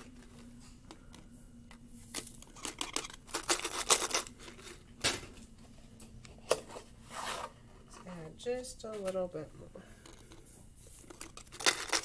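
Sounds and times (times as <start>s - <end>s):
plastic crinkling and scraping: 0.0s - 12.0s.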